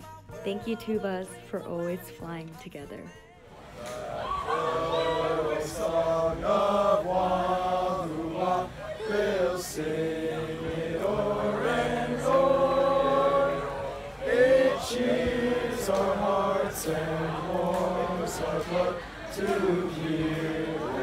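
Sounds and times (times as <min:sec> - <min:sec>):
young voices singing together: 0:03.6 - 0:21.0.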